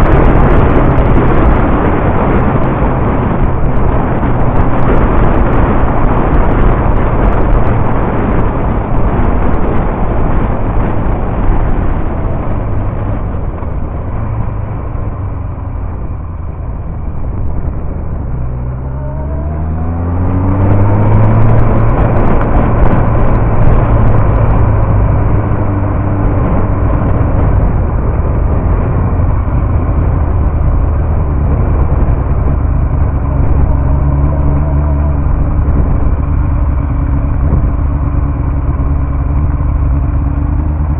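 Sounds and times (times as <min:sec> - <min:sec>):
motorcycle engine revving: 0:00.0 - 0:40.9
rushing wind noise: 0:00.0 - 0:40.9.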